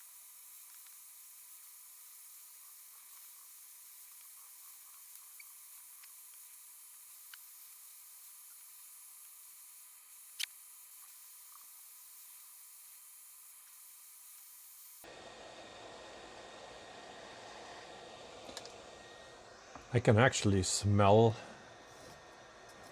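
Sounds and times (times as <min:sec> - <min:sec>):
hot air gun hissing: 0:00.0 - 0:19.1.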